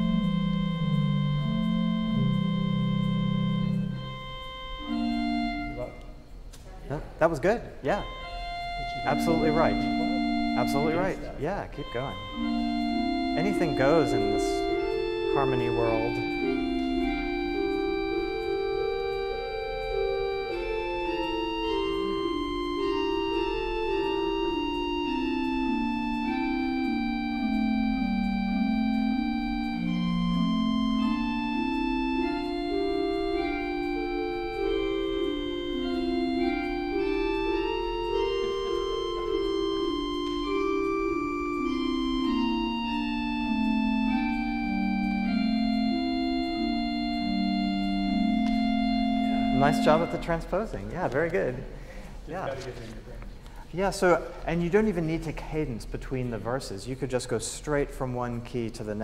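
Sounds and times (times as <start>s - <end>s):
church organ playing a hymn: 0.0s - 6.4s, 7.8s - 59.0s.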